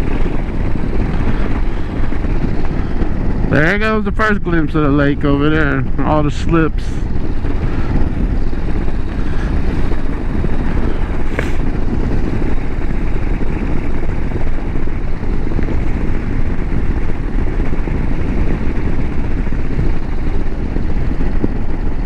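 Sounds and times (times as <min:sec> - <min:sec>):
motorcycle engine cruising: 0:00.0 - 0:22.0
wind rush on microphone: 0:00.0 - 0:22.0.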